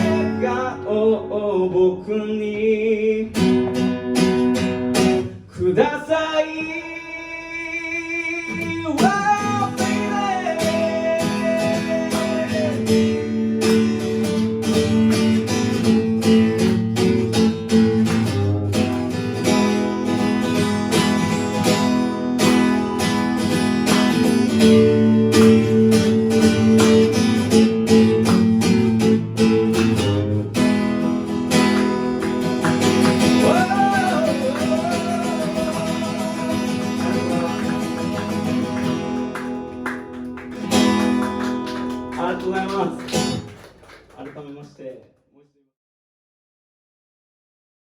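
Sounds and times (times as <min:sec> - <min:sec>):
acoustic guitar strumming: 0:00.0 - 0:43.5.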